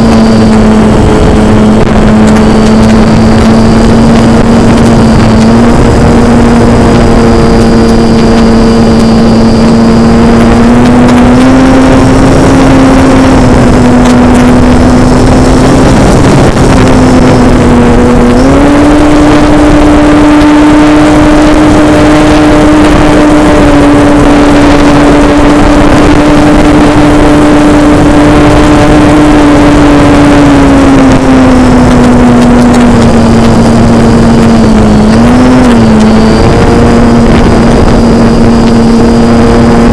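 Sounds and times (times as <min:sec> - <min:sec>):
model airplane motor droning: 0:00.0 - 0:39.9
rushing wind: 0:00.0 - 0:39.9.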